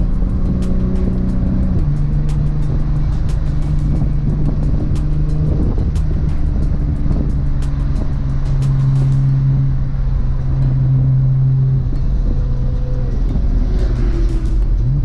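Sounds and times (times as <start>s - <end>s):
car engine while driving: 0.0s - 15.0s.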